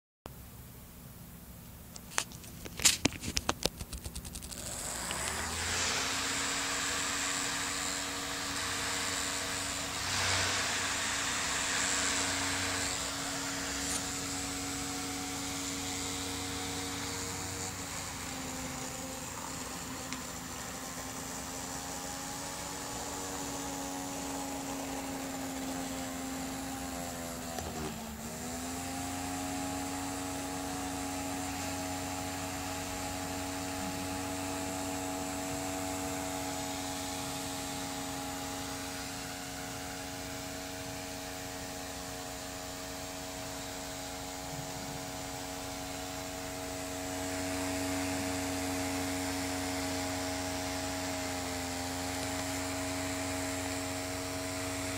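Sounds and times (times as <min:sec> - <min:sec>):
small electric fan motor whirring: 0:02.6 - 0:54.9.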